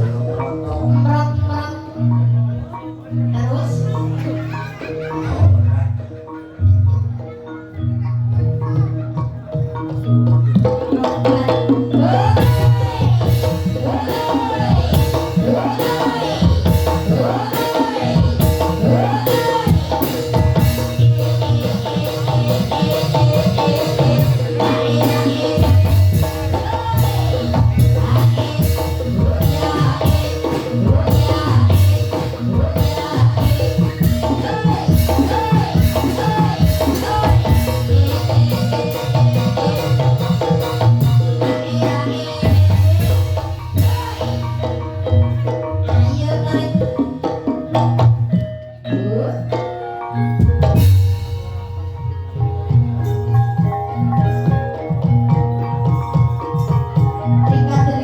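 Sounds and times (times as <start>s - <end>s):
busy drum beat: 9.2s - 48.6s, 50.3s - 58.0s.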